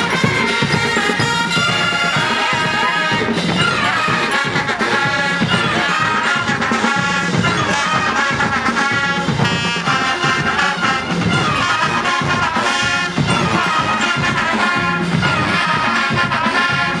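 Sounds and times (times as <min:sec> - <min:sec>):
marching band brass chords: 0:00.0 - 0:17.0
steady drum beat: 0:00.0 - 0:17.0.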